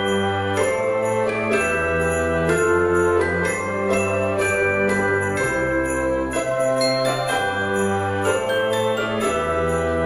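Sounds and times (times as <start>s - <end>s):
bell-like chimes over chords: 0.0s - 10.0s.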